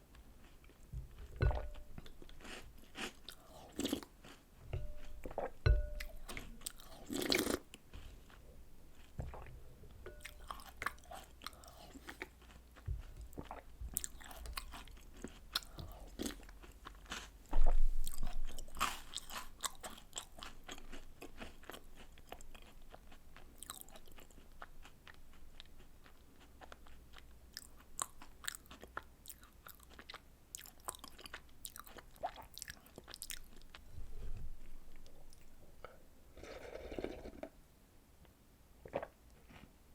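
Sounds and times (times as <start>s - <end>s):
chewing and crunching cookies: 0.0s - 34.0s.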